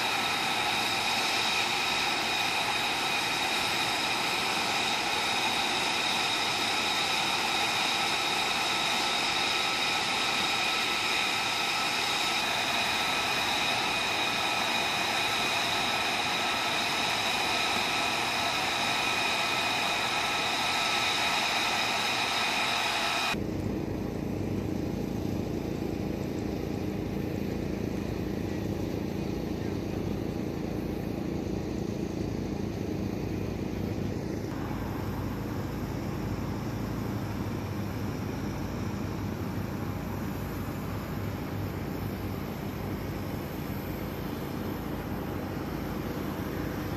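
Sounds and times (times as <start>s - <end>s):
distant jet rumble: 0.0s - 46.9s
jet engine whine: 0.0s - 46.9s.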